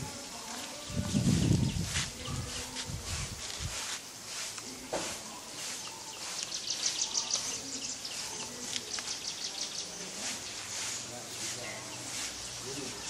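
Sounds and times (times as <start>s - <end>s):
birds and insects calling: 0.0s - 13.0s.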